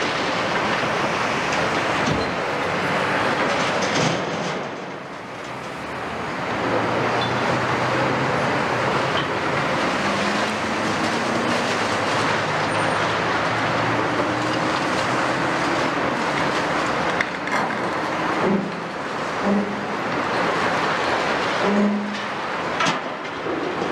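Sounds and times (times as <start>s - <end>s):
excavator diesel engines under load: 0.0s - 23.9s
rubble and scrap clattering: 0.0s - 23.9s.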